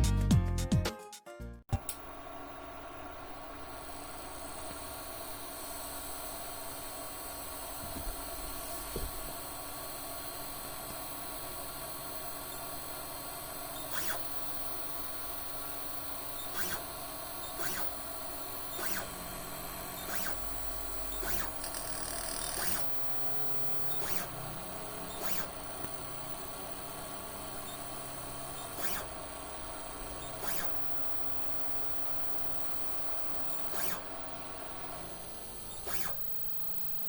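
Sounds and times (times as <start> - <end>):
printer steady hum: 1.7 - 37.0
short sharp motor moves: 1.7 - 37.0.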